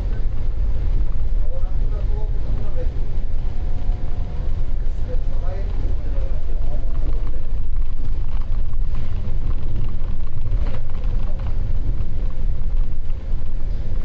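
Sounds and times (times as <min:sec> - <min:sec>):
bus engine rumble: 0:00.0 - 0:14.0
bus fittings rattling: 0:00.0 - 0:14.0.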